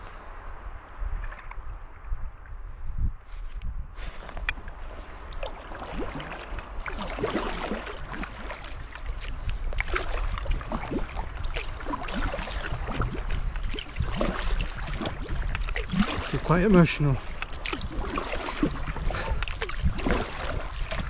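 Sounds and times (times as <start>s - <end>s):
water splashing around kayak hull: 3.3s - 21.0s.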